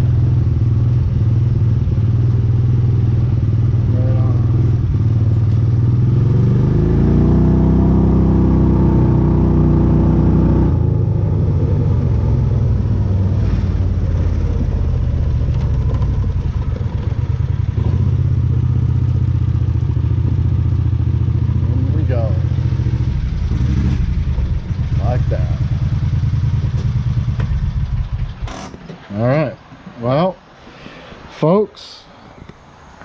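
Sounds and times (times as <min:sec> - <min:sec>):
vehicle engine running: 0:00.0 - 0:29.6.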